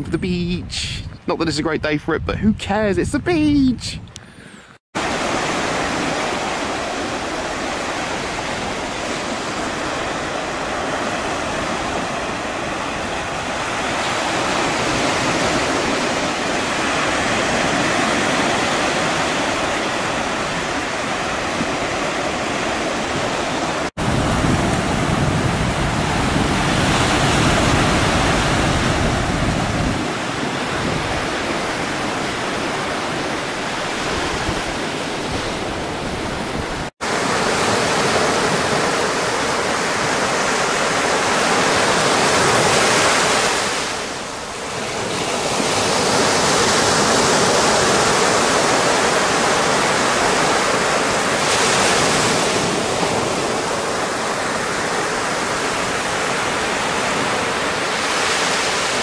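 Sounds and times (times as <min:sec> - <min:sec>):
ocean waves washing on beach: 0:05.0 - 0:59.0.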